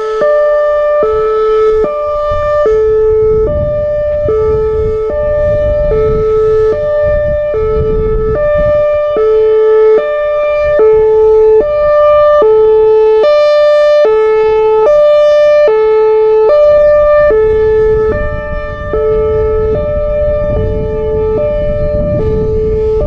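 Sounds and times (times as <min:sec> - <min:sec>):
two-tone warning siren wail: 0:00.0 - 0:23.0.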